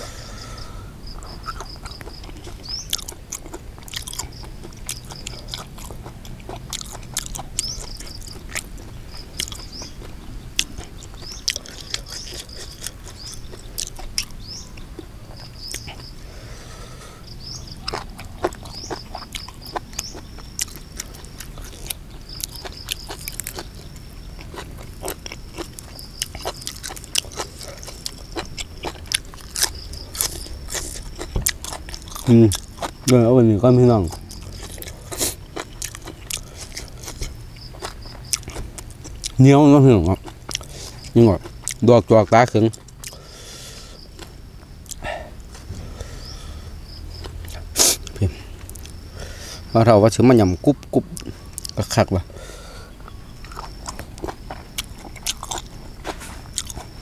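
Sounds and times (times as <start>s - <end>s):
chewing and crunching food: 0.0s - 57.0s
insects chirping: 0.0s - 57.0s.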